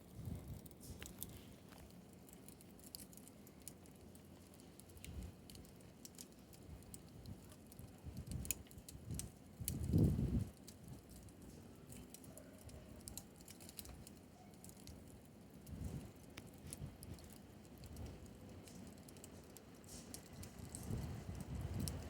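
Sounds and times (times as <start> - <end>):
bonfire crackling: 0.0 - 22.0
fire popping and snapping: 0.0 - 22.0.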